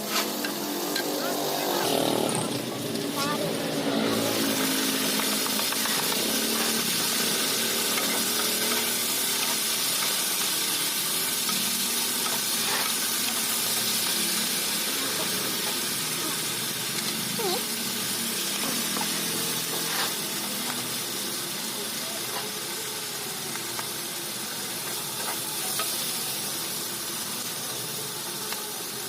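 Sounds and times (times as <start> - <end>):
food sizzling in a hot pan: 0.0 - 29.0.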